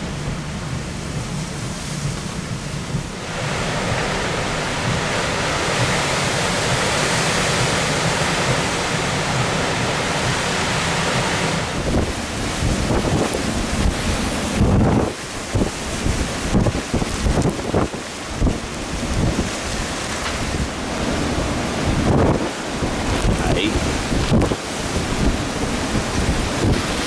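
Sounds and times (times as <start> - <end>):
storm winds rushing: 0.0 - 27.0
wind buffeting microphone: 0.0 - 27.0.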